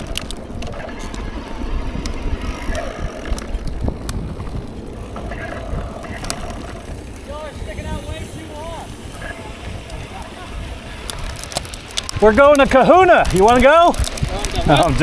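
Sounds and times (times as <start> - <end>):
bike clicks and rattles: 0.0 - 15.0
wind and tyre rumble: 0.0 - 15.0.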